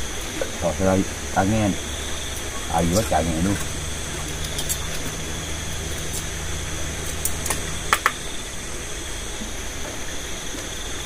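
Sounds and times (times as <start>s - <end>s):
night insects chorus: 0.0s - 11.0s
steady low hum: 0.0s - 11.0s.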